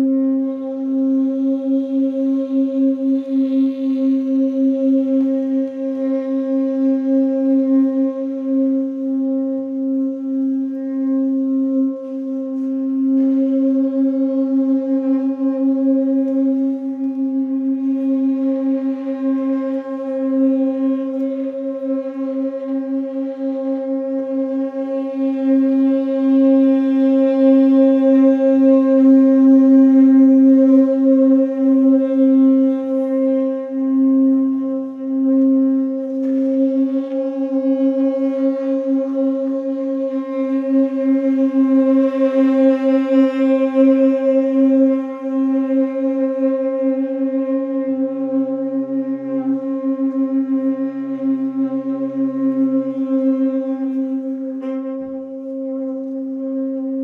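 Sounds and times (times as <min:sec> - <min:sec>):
saxophone drone note: 0:00.0 - 0:57.0.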